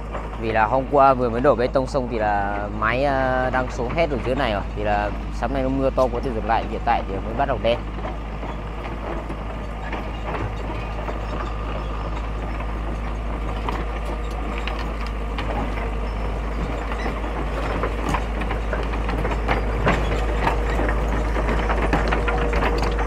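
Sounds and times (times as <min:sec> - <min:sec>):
clanks and clicks: 0:00.0 - 0:23.0
excavator and truck engines: 0:00.0 - 0:23.0.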